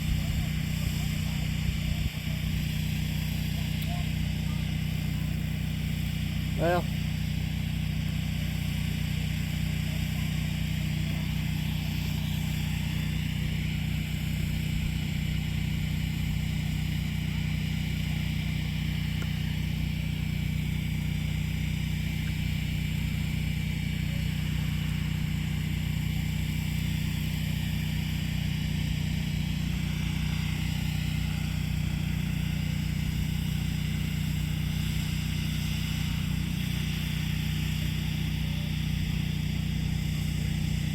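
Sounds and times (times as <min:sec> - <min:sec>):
engine droning steadily: 0:00.0 - 0:40.9.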